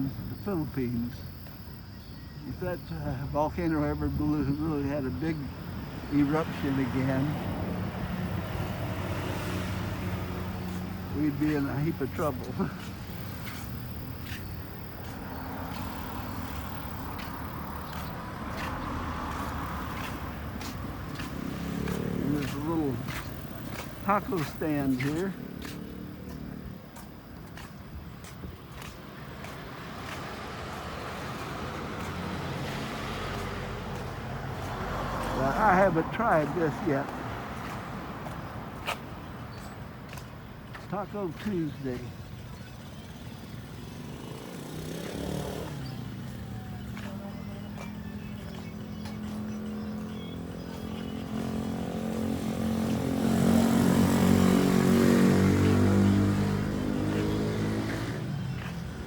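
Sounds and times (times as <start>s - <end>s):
motor vehicle approaching: 0.0s - 59.0s.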